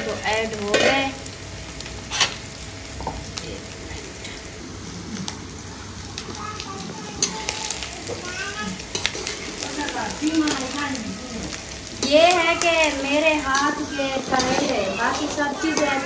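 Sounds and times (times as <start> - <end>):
vegetables sizzling in hot fat: 0.0 - 16.0.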